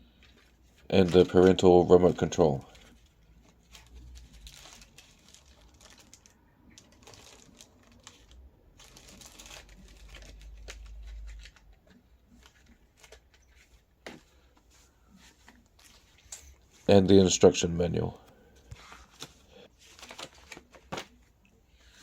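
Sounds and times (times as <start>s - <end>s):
plastic packaging crinkling: 0.1s - 14.5s, 15.1s - 16.9s, 17.9s - 22.0s.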